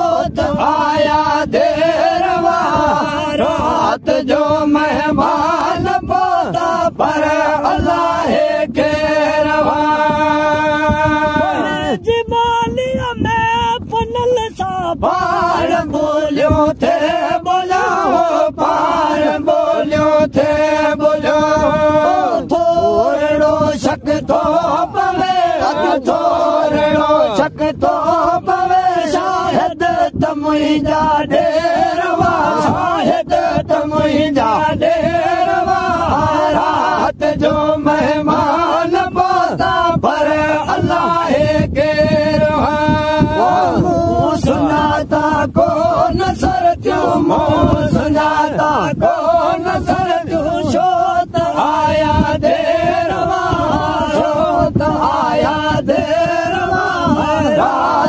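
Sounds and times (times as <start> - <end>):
men chanting a devotional song: 0.0 - 58.0.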